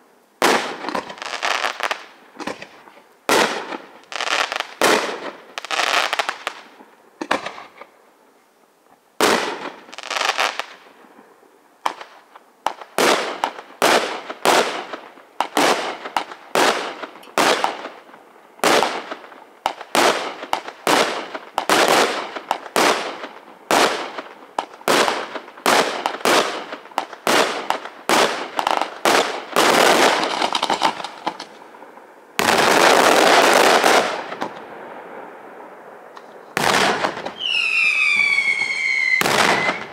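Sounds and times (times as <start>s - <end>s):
firework crackling: 0.0s - 7.9s, 11.8s - 35.1s, 36.1s - 39.9s.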